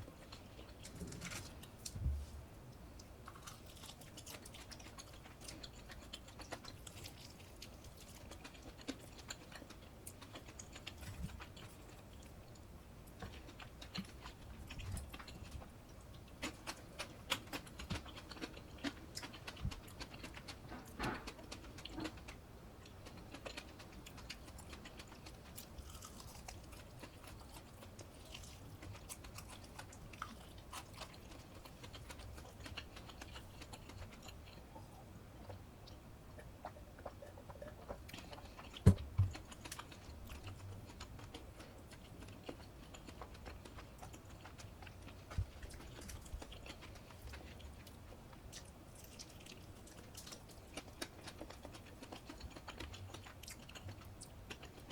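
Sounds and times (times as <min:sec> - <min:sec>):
soft chewing: 0:00.0 - 0:54.9.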